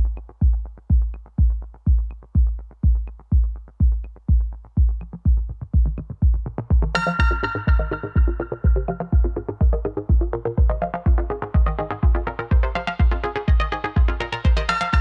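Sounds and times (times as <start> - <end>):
electronic music beat: 0.0 - 15.0.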